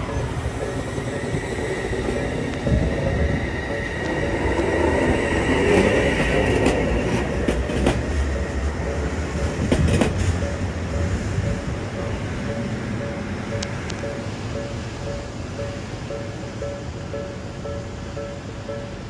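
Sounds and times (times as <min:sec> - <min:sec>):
train wheels clacking over rail joints: 0:00.0 - 0:16.2
crossing bell dinging: 0:00.0 - 0:19.0.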